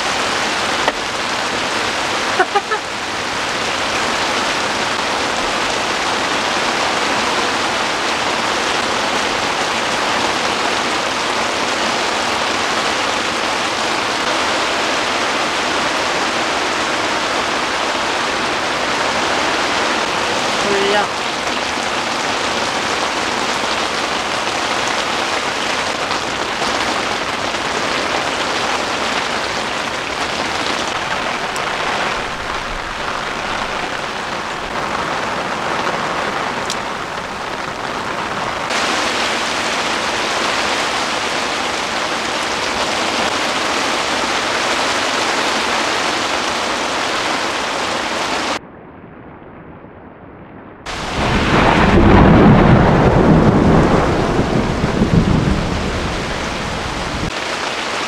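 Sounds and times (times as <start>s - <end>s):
heavy rain on a tent: 0.0s - 48.6s, 50.8s - 58.0s.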